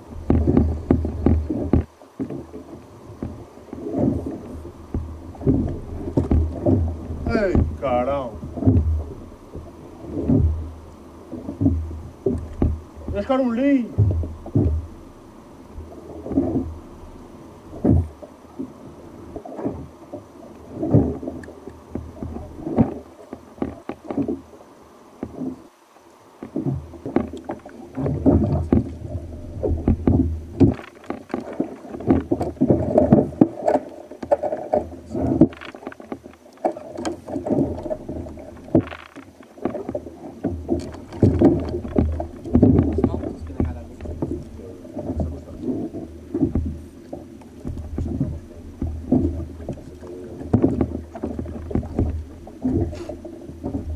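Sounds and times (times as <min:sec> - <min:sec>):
water slapping against kayak hull: 0:00.0 - 0:53.9.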